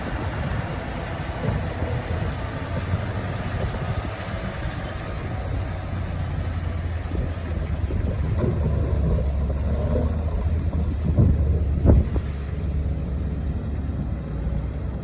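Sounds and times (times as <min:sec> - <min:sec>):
excavator clunks: 0:00.0 - 0:12.8
excavator diesel engine running: 0:00.0 - 0:15.0.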